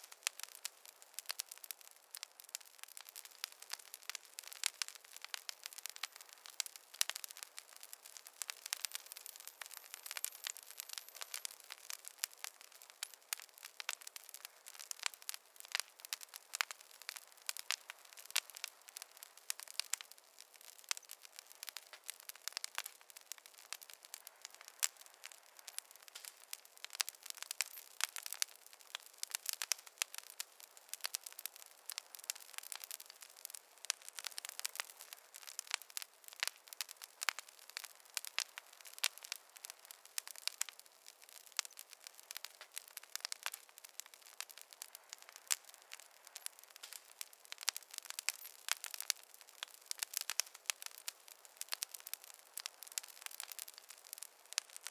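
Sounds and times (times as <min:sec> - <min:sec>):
campfire crackling: 0:00.0 - 0:54.9
faint fire hiss: 0:00.0 - 0:54.9.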